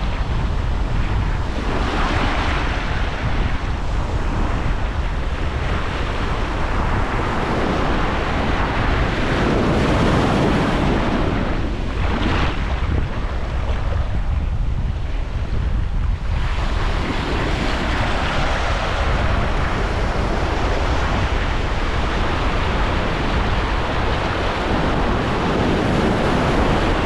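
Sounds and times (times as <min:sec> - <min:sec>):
surf breaking on beach: 0:00.0 - 0:27.0
wind rumbling on microphone: 0:00.0 - 0:27.0.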